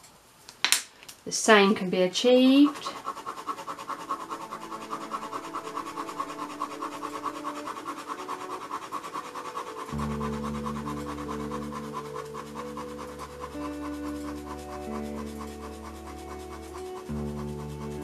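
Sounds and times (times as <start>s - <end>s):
pen scribbling on paper: 1.8s - 18.0s.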